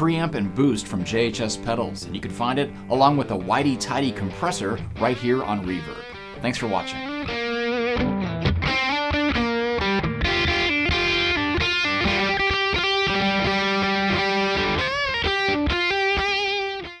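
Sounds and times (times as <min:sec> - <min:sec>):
electric guitar single notes: 0:00.0 - 0:17.0.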